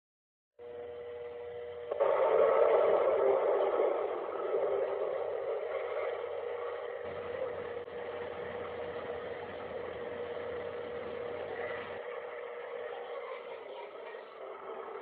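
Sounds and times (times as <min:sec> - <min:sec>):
steady drone: 0:00.6 - 0:15.0.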